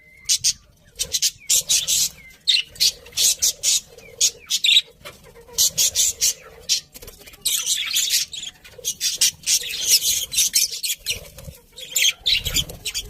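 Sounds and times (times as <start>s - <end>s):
budgerigars chirping: 0.1s - 13.0s.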